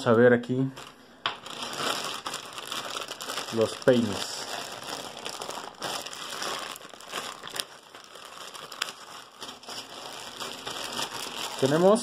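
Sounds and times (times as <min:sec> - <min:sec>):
plastic bag crinkling: 0:00.7 - 0:12.0.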